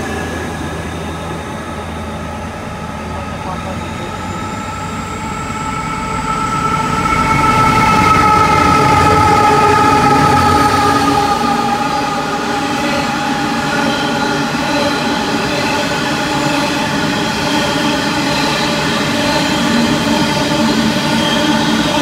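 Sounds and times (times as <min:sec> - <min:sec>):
train wagons rumbling past: 0:00.0 - 0:22.0.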